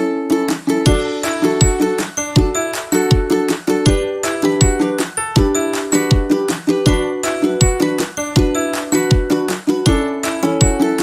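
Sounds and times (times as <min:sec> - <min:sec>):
upbeat ukulele music: 0:00.0 - 0:11.0.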